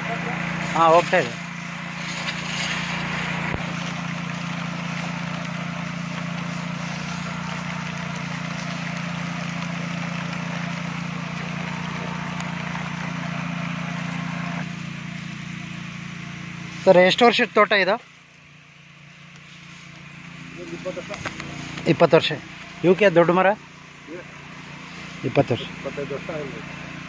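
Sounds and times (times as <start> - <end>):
spray jet hissing: 0.0 - 17.9, 19.5 - 27.0
power sprayer engine running: 0.0 - 27.0.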